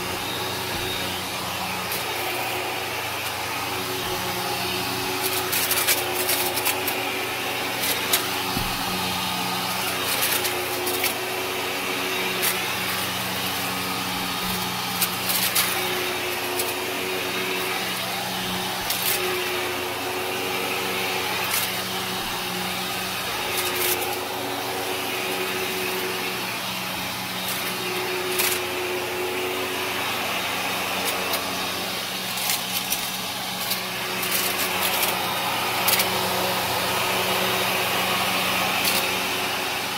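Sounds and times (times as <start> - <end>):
grit crunching in vacuum: 0.0 - 39.9
vacuum cleaner motor drone: 0.0 - 39.9.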